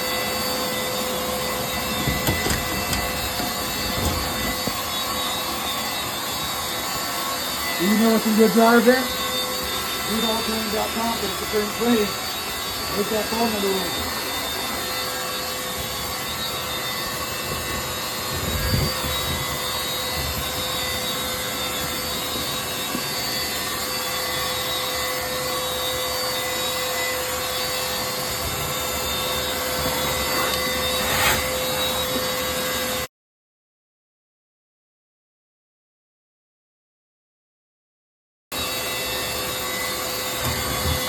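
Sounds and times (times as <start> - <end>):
vacuum running: 0.0 - 33.1, 38.5 - 41.0.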